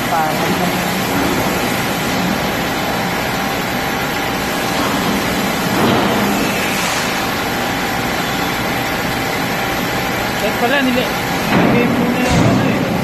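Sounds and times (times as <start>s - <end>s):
loud mechanical hum: 0.0s - 13.0s.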